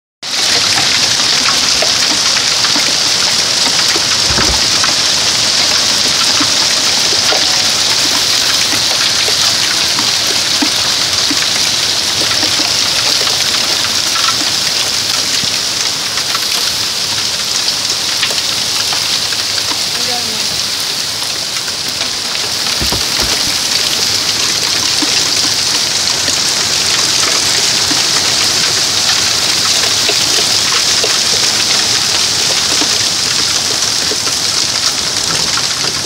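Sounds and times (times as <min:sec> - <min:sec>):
hail and rain pelting: 0:00.2 - 0:36.0.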